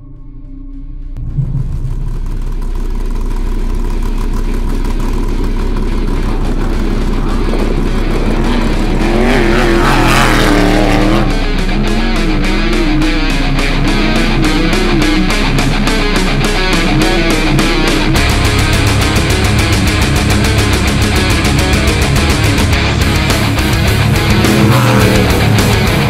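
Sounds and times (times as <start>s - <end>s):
truck engine revving high: 0.9s - 26.0s.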